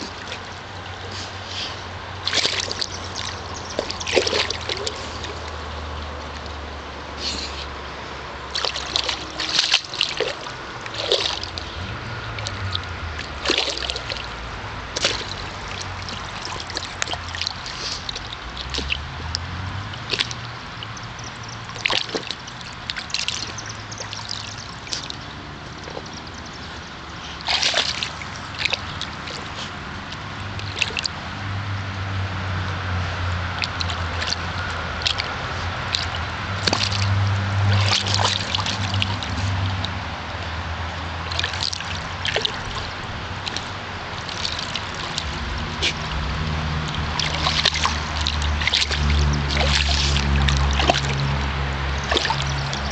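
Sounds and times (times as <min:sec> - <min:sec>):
dog splashing in water: 0:00.0 - 0:06.7, 0:08.5 - 0:52.9
water sloshing: 0:00.0 - 0:52.9.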